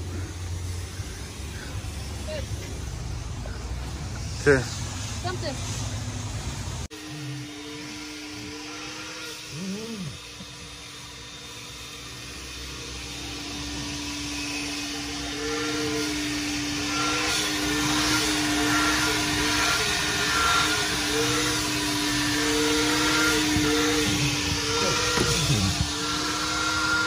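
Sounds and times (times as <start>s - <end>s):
vacuum sucking through hose: 0.0s - 27.0s.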